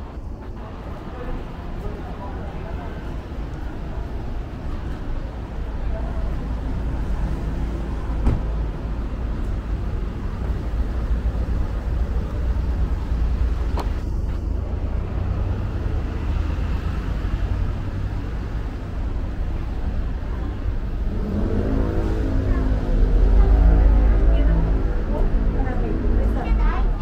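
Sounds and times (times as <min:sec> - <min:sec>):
city traffic rumble: 0:00.0 - 0:27.0.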